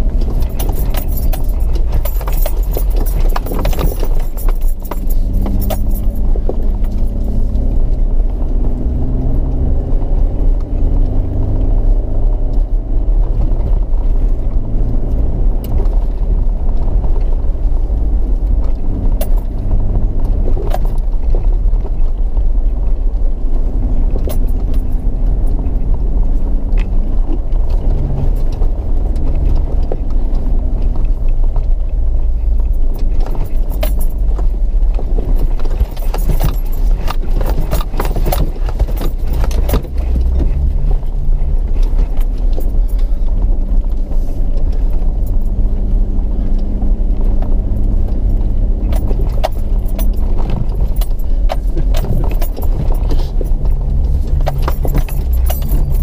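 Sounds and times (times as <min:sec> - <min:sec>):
vehicle engine rumble: 0:00.0 - 0:56.0
vehicle rattling over rough ground: 0:00.0 - 0:56.0.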